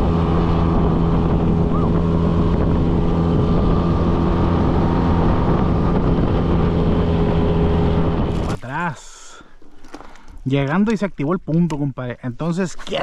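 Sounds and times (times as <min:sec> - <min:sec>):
boat motor droning: 0:00.0 - 0:10.9
water and wind noise: 0:00.0 - 0:13.0.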